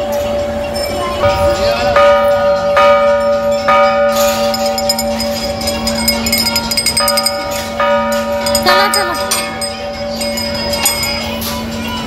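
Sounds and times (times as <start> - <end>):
brass bell ringing: 1.2 - 11.6.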